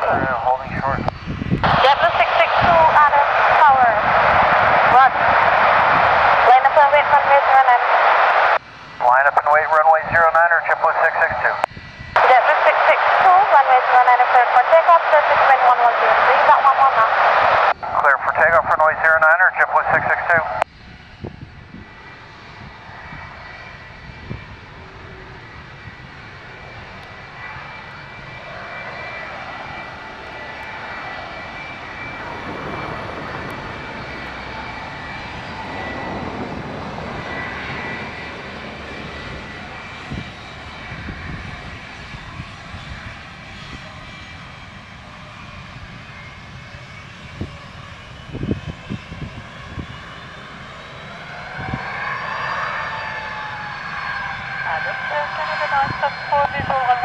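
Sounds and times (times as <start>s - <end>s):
jet engines at takeoff power: 0.0s - 57.0s.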